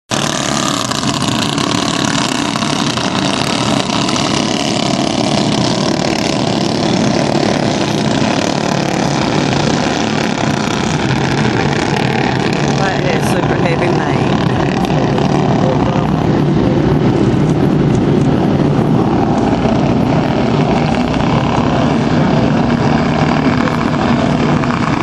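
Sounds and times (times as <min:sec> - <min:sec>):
race engines running: 0:00.1 - 0:25.0.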